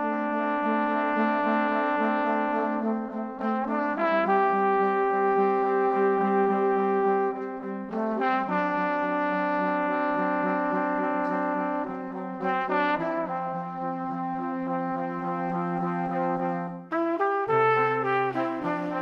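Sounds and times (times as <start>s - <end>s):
slow held brass chords: 0.0s - 19.0s.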